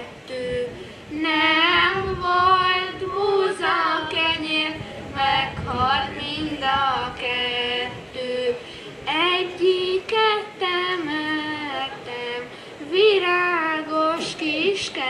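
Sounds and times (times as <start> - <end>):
children singing folk song: 0.0 - 15.0.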